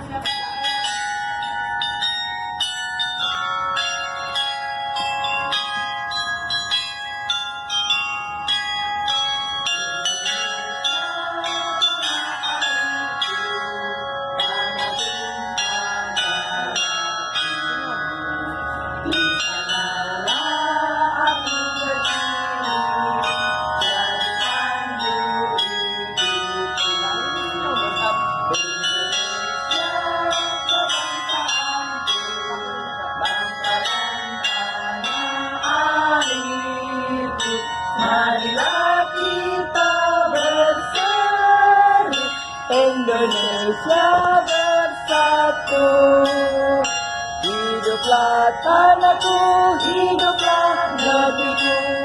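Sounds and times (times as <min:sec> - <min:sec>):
tower bells ringing: 0:00.0 - 0:52.0.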